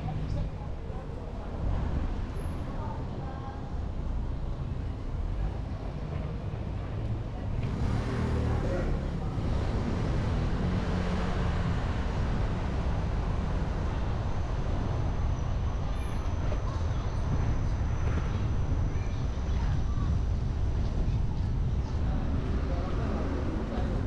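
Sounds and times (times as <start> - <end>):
outdoor street noise: 0.0 - 24.0.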